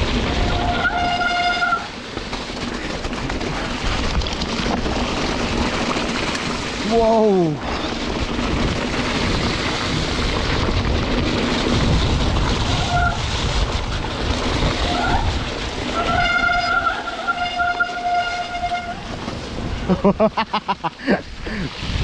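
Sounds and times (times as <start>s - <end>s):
rain: 0.0s - 22.0s
rush of bike tyres: 0.0s - 22.0s
wind: 0.0s - 22.0s.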